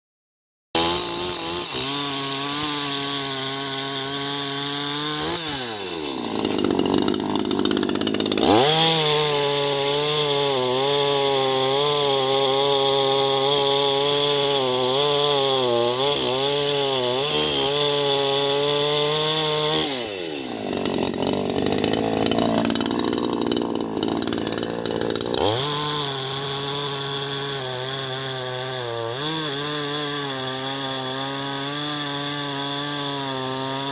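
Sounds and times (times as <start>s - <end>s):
chainsaw cutting log: 0.8s - 33.9s.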